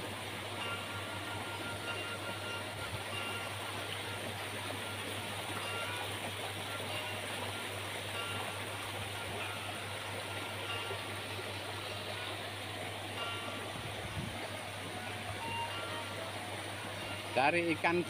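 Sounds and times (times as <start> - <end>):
stream rushing over stones: 0.0 - 18.0.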